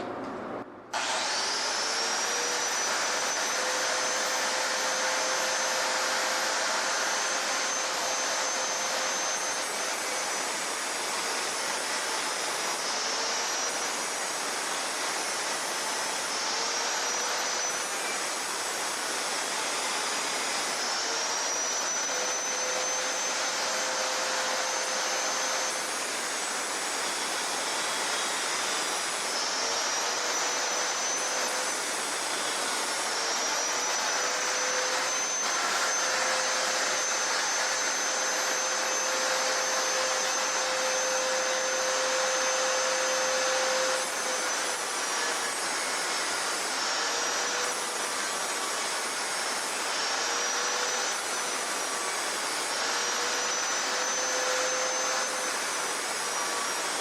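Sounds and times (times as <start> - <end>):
angle grinder whining: 0.9 - 57.0.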